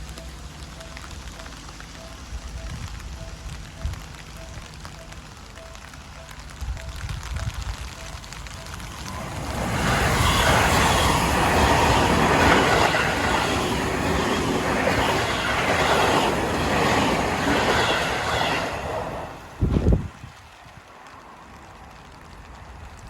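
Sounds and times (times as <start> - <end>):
train wheels clacking on rails: 0.0 - 21.1.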